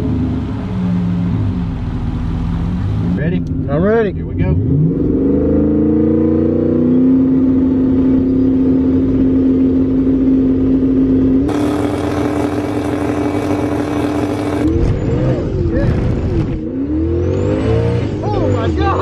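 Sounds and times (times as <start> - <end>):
car engine held at steady revs: 0.0 - 19.0.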